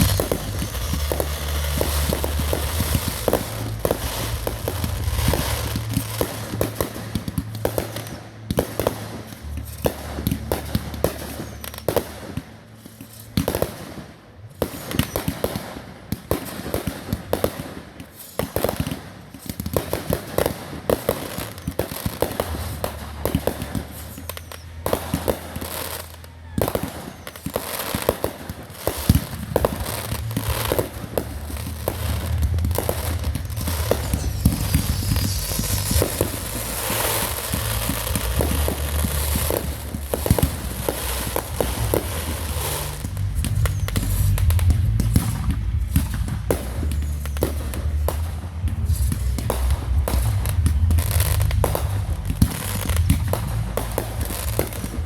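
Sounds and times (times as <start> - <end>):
fireworks crackling: 0.0 - 55.0
fireworks popping and banging: 0.0 - 55.0.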